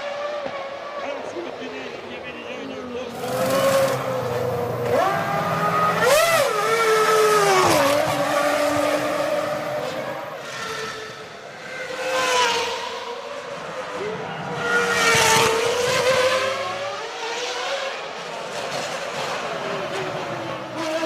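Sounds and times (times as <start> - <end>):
racing car engines at high revs: 0.0 - 1.4, 3.0 - 21.0.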